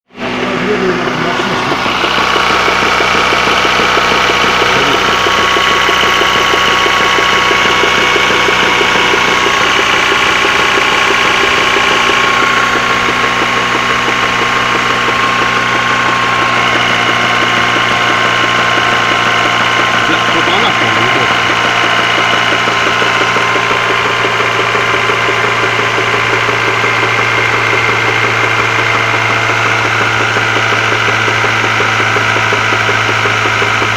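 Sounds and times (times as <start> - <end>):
car engine idling with knock: 0.2 - 33.9.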